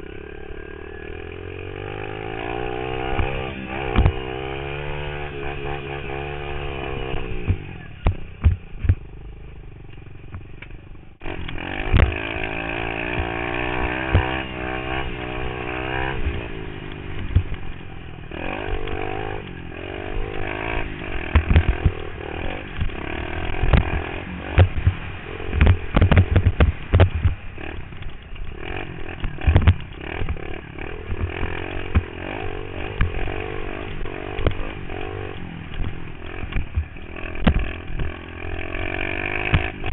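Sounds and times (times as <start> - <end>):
dirt bike engine revving: 0.0 - 39.9
bike knocking and clattering: 2.4 - 9.2, 9.8 - 16.2, 16.8 - 22.1, 22.7 - 39.9.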